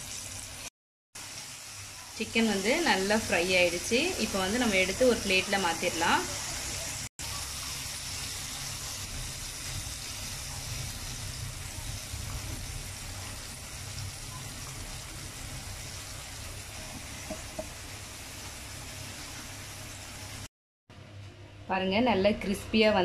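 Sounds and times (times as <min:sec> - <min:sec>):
chicken sizzling in hot oil: 0:00.0 - 0:20.5.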